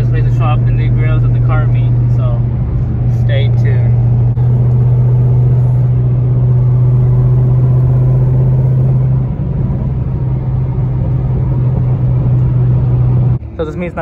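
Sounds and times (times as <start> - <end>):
car engine and exhaust drone: 0.0 - 14.0.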